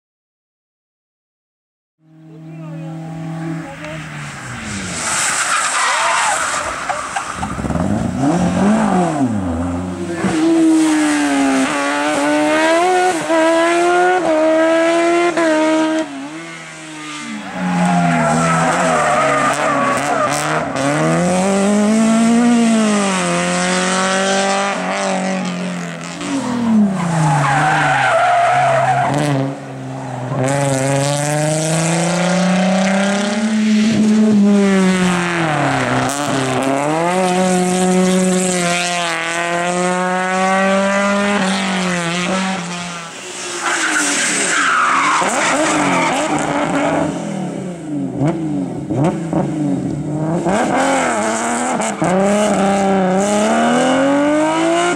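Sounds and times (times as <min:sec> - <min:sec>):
race car engines revving: 0:02.0 - 0:54.9.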